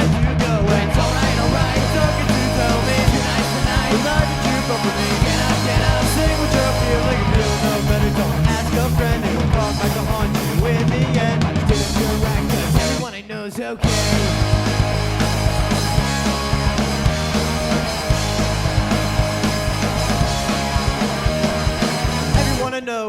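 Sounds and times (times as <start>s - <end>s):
rock band playing live: 0.0s - 13.1s, 13.8s - 22.7s.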